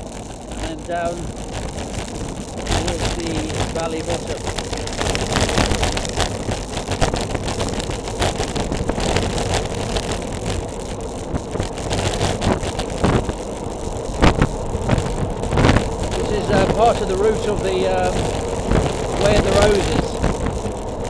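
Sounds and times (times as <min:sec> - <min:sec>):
bicycle knocking over bumps: 0:00.0 - 0:21.0
bicycle tyre noise: 0:00.0 - 0:21.0
wind rush: 0:00.0 - 0:21.0.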